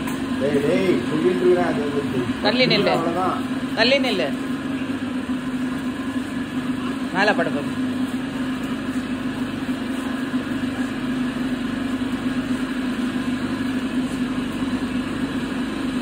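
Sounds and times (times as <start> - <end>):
machine humming steadily: 0.0 - 16.0.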